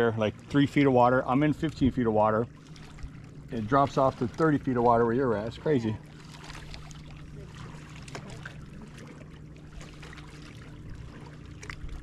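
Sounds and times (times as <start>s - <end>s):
low steady hum: 0.0s - 12.0s
water lapping against hull: 0.0s - 12.0s.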